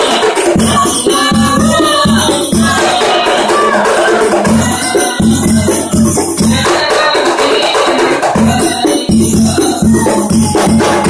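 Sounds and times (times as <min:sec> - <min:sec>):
frame drums patter: 0:00.0 - 0:11.0.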